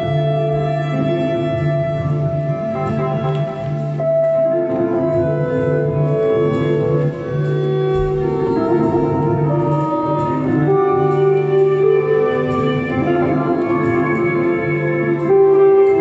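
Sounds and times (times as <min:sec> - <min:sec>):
bowed violin: 0:00.0 - 0:16.0
live band music: 0:00.0 - 0:16.0.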